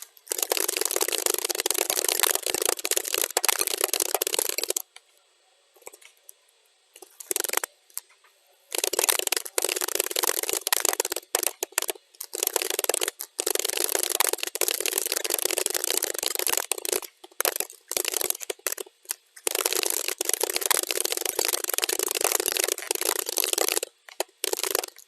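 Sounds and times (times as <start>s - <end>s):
fast keyboard typing: 0.0s - 4.8s, 7.0s - 7.7s, 8.7s - 25.0s.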